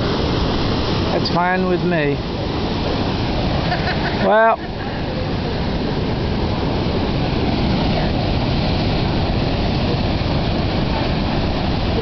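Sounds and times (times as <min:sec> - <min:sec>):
surf breaking: 0:00.0 - 0:12.0
wind rumble on microphone: 0:02.1 - 0:12.0.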